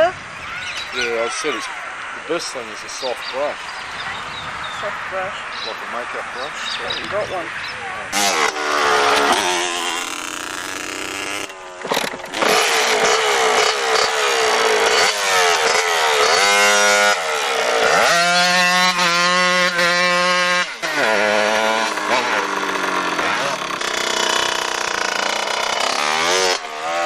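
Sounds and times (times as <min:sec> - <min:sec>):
motorcycle engine revving: 0:02.3 - 0:27.0.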